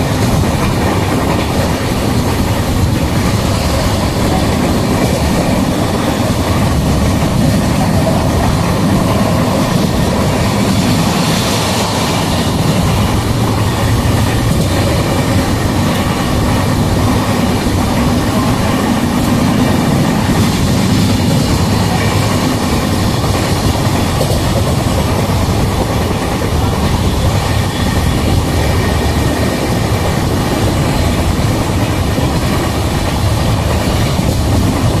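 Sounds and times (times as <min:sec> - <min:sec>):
rushing noise: 0:00.0 - 0:35.0
wheels rumbling on rails: 0:00.0 - 0:35.0.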